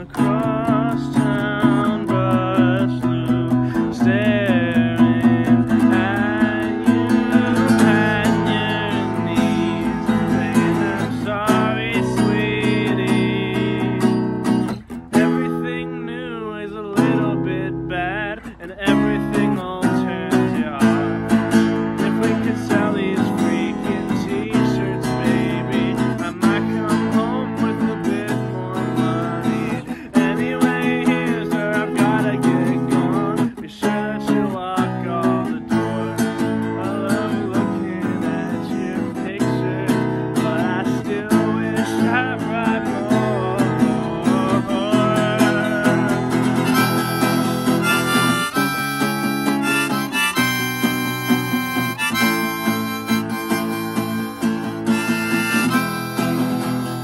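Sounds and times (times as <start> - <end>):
harmonica bending notes: 0.0 - 33.3, 35.4 - 57.0
strummed acoustic guitar: 0.0 - 57.0.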